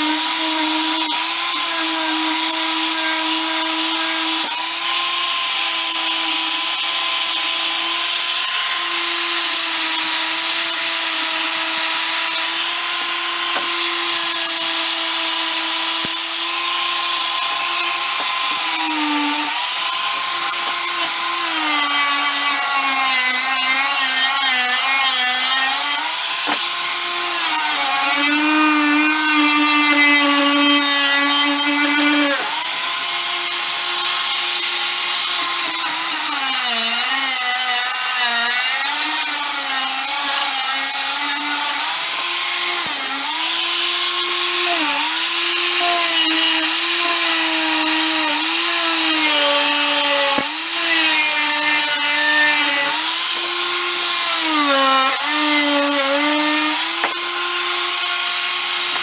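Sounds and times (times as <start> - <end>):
power tool grinding: 0.0 - 59.0.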